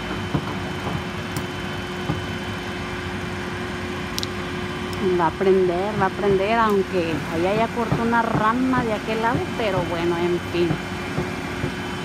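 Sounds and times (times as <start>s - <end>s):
boom lift engine humming: 0.0s - 12.0s.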